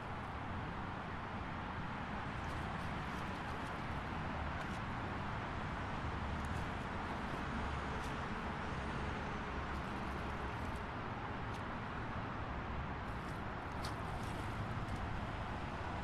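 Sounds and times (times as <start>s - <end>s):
highway traffic noise: 0.0s - 16.0s.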